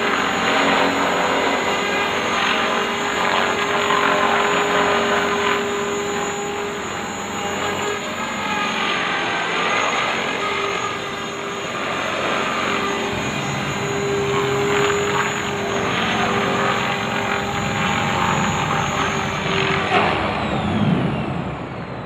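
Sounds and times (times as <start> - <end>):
electric motor whine: 0.0 - 22.0
rc helicopter rotors buzzing: 0.0 - 22.0.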